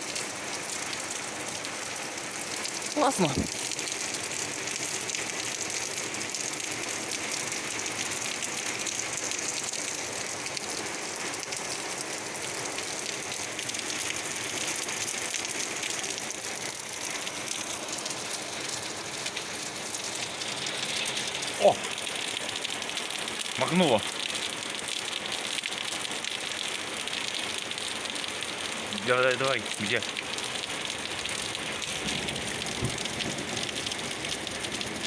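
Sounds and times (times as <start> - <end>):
rain splashing on concrete: 0.0 - 35.0.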